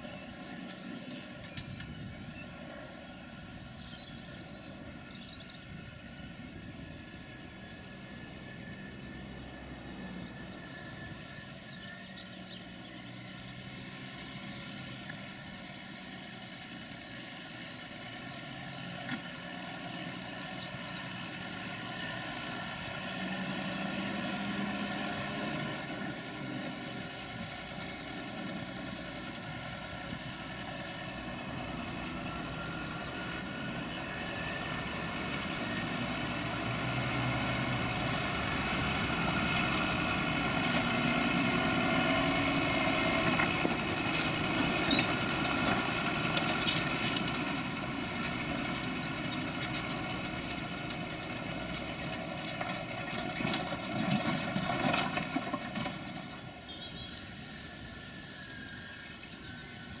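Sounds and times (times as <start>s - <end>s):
tractor engine drone: 0.0s - 60.0s.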